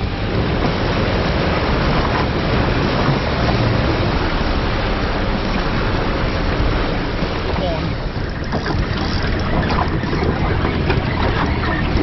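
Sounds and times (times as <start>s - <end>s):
boat motor humming: 0.0s - 12.0s
wake water rushing: 0.0s - 12.0s
wind: 0.0s - 12.0s.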